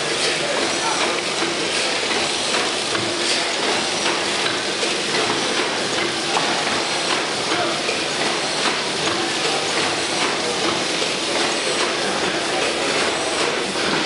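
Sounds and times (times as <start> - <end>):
gas engine running: 0.0 - 14.0.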